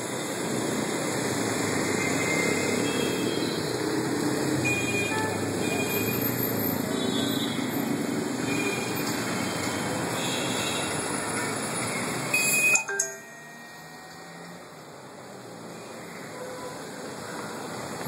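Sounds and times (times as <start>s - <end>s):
city road traffic: 0.0s - 18.0s.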